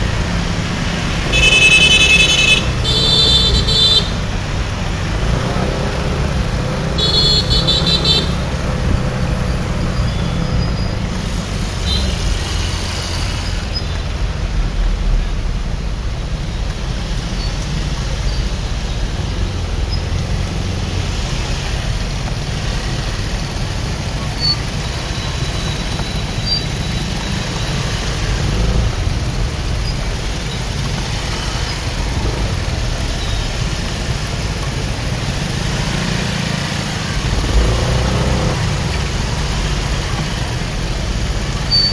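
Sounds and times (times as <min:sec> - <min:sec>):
motorbike engine and road rumble: 0:00.0 - 0:41.9
surrounding traffic: 0:00.0 - 0:41.9.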